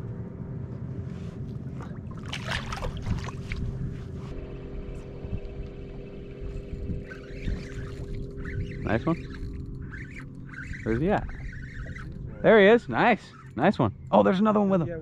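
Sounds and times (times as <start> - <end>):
boat engine rumble: 0.0 - 15.0
steady hum: 0.0 - 15.0.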